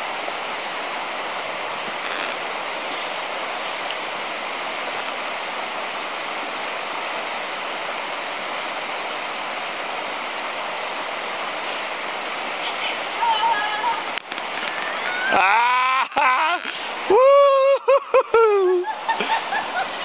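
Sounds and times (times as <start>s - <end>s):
river rushing over rocks: 0.0s - 15.6s, 16.6s - 17.2s.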